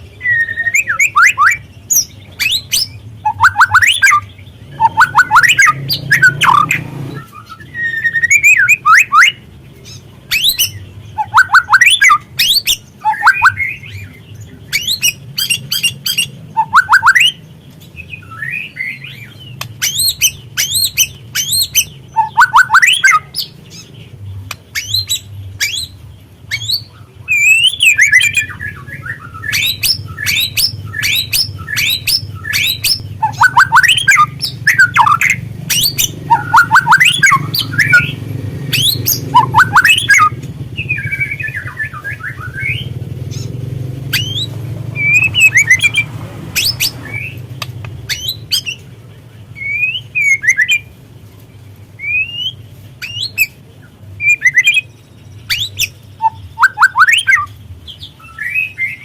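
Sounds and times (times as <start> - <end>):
bird singing whistles and chatter: 0.0 - 48.9, 49.5 - 50.9, 52.0 - 59.0.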